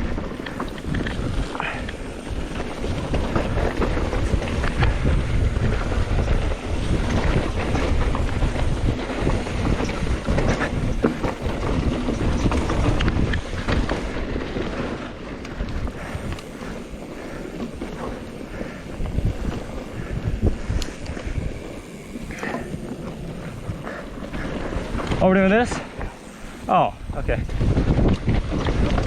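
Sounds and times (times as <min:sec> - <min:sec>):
bike rattling and clicking: 0:00.0 - 0:29.0
tyres rolling over dirt and rock: 0:00.0 - 0:29.0
wind buffeting microphone: 0:00.0 - 0:29.0.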